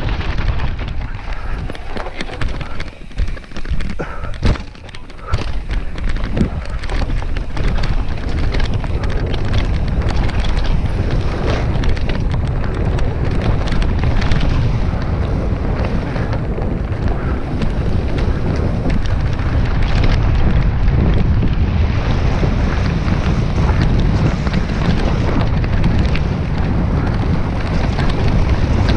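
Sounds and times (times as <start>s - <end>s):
bike clicks and knocks: 0.0s - 28.9s
wind buffeting microphone: 0.0s - 28.9s.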